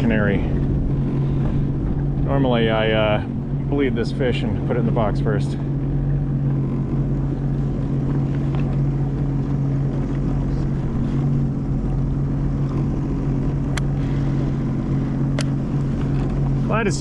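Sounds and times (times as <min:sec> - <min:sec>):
jet ski engine idling: 0:00.0 - 0:17.0.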